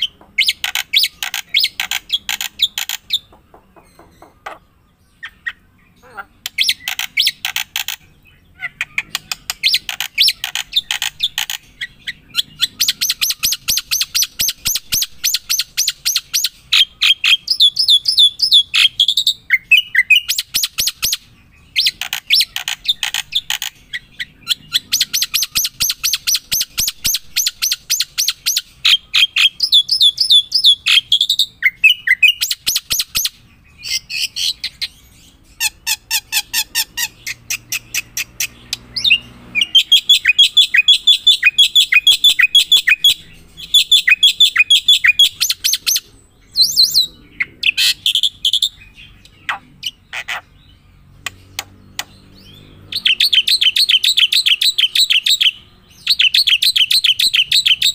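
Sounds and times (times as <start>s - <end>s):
bird singing chirps and trills: 0.0s - 57.9s.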